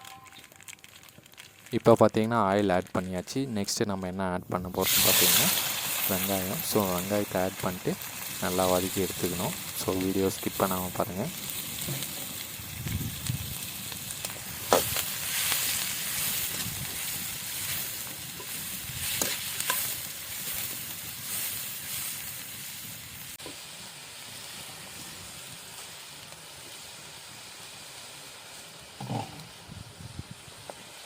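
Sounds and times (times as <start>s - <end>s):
onions sizzling in oil: 4.6s - 31.0s.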